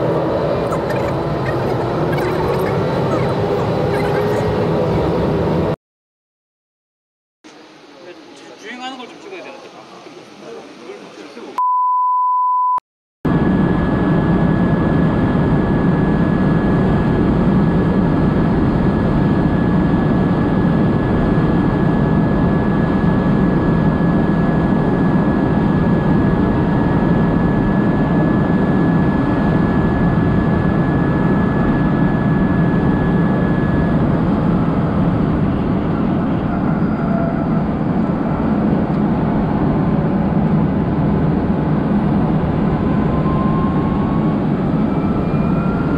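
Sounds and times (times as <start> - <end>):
wind and road noise: 0.0 - 5.8, 13.3 - 45.9.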